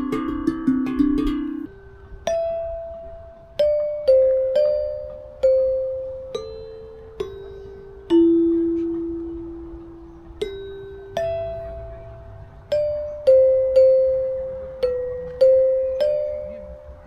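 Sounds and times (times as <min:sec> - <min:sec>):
metallophone melody: 0:00.0 - 0:17.0.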